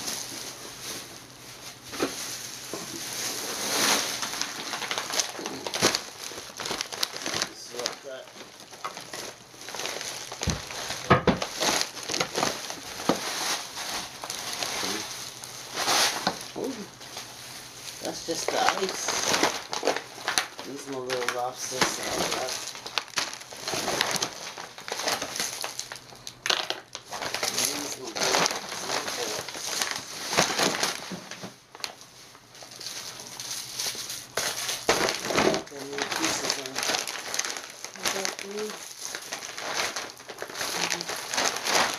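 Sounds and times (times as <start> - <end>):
plastic bag crinkling: 0.0 - 41.9.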